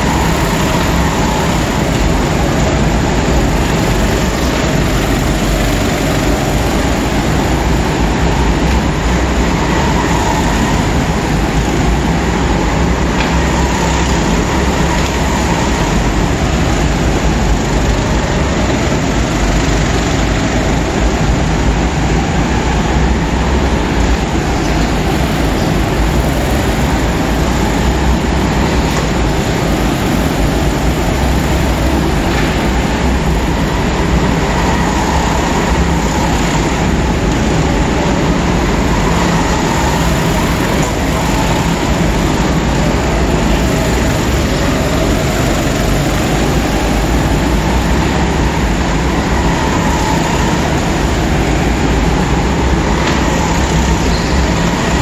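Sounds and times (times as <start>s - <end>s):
go-kart engines droning: 0.0s - 55.0s.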